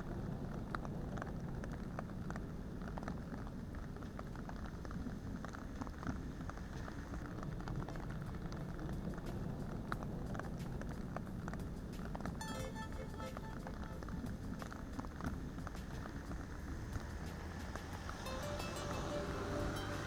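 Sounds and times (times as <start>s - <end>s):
raindrops ticking on surfaces: 0.0s - 20.0s
steady rain falling: 0.0s - 20.0s.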